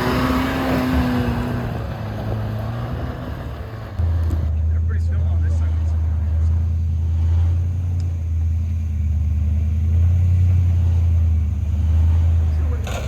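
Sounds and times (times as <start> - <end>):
engine low drone: 0.0 - 13.0.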